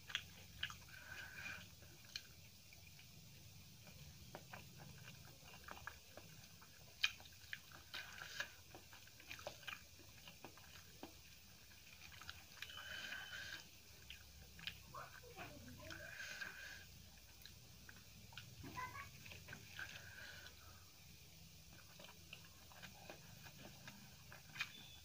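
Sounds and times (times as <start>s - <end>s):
quiet chewing with crunchy clicks: 0.0s - 25.0s.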